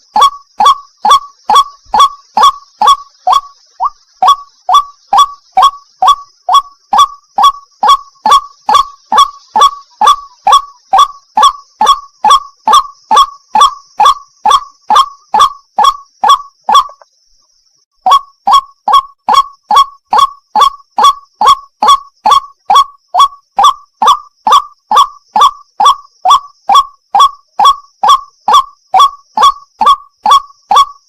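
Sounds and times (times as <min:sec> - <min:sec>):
bird calling repeated wak: 0:00.0 - 0:17.2, 0:18.0 - 0:31.0.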